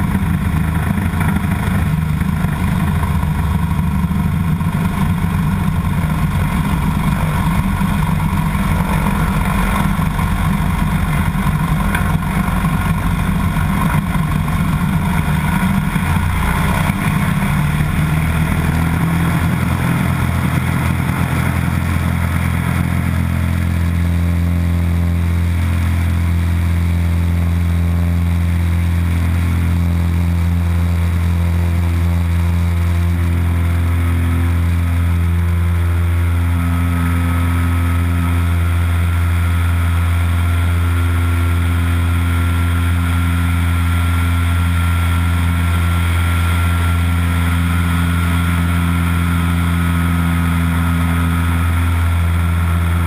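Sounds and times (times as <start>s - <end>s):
plane engine and propeller drone: 0.0s - 53.0s.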